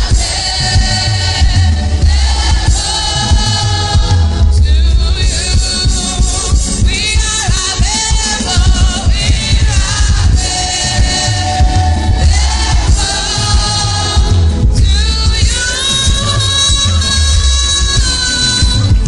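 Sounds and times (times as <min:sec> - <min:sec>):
choir singing: 0:00.0 - 0:17.3
band with heavy bass: 0:00.0 - 0:19.0.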